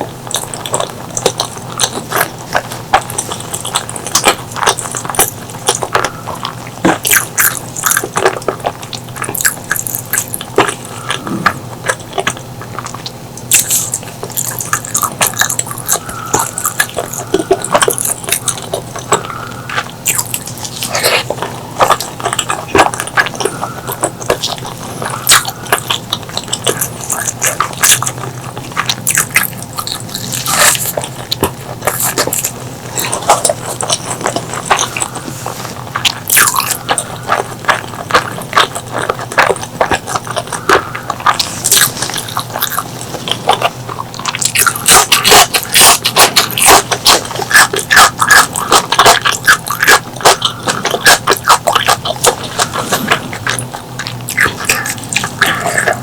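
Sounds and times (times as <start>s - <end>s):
wet chewing and lip smacks: 0.0s - 56.0s.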